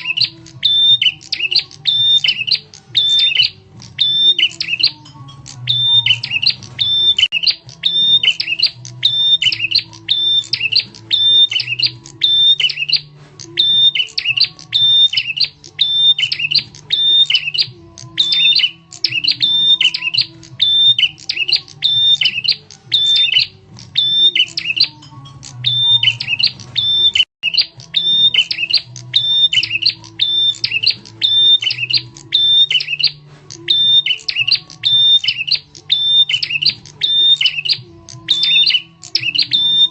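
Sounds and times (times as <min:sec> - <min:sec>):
sharp bird chirping: 0:00.0 - 0:39.9.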